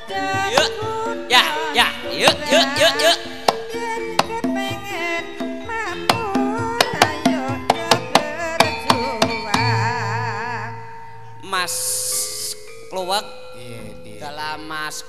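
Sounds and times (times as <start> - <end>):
sustained metallophone tones: 0.0 - 15.0
wavering melody line: 0.0 - 15.0.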